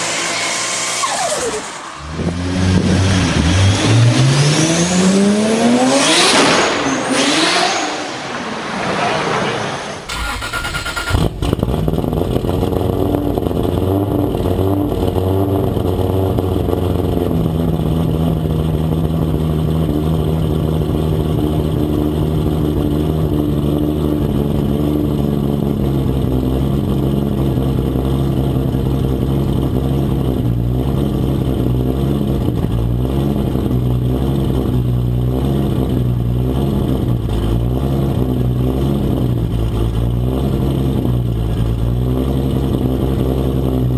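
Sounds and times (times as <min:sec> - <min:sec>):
car engine running steadily: 0:00.0 - 0:08.6, 0:09.9 - 0:43.9.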